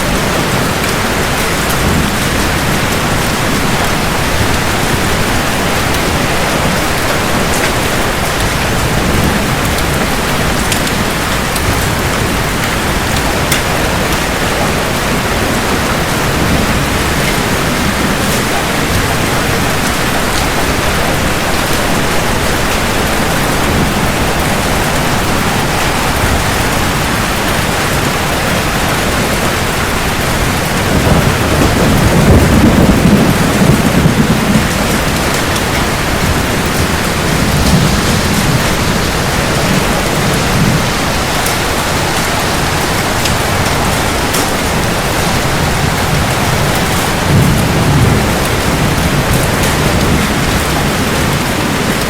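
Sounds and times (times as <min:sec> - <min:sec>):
heavy rain falling: 0:00.0 - 0:52.0
thunder rumbling: 0:00.0 - 0:52.0.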